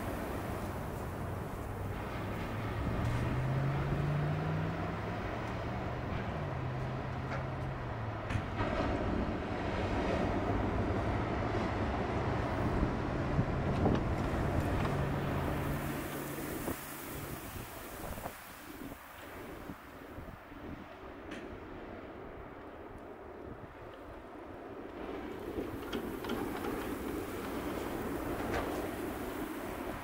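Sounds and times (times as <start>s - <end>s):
rushing wind-like noise: 0.0s - 30.0s.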